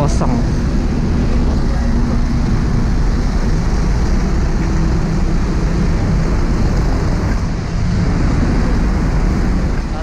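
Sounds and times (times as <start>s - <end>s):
vehicle engines rumbling: 0.0s - 10.0s.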